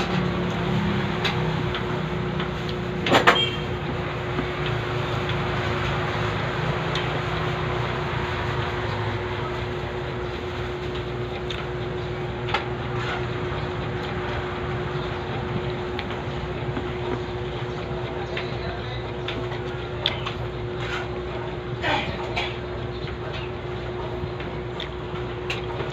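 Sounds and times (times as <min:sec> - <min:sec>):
low mechanical rumble with hum: 0:00.0 - 0:25.9.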